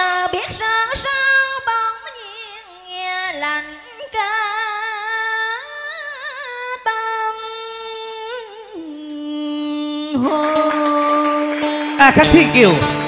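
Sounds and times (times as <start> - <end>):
woman singing with vibrato: 0.0 - 11.8.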